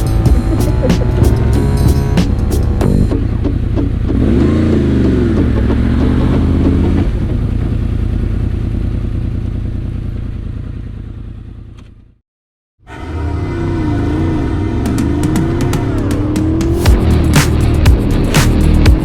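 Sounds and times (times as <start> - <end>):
motorcycle engine running: 0.0 - 12.2, 14.0 - 19.0.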